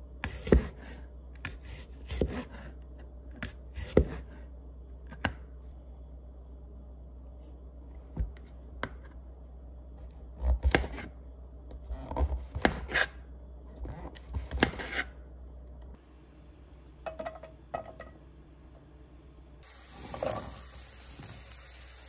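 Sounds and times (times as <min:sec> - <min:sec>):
steady low hum: 0:00.0 - 0:20.2.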